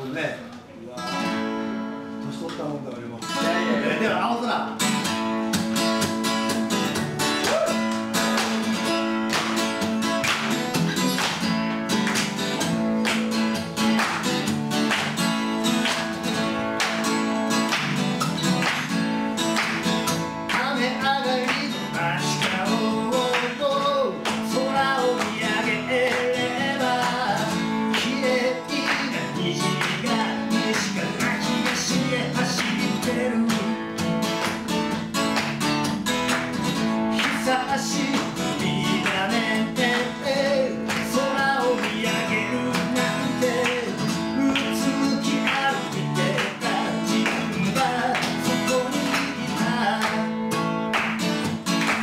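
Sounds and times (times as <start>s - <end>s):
acoustic guitar strumming: 1.0s - 52.0s.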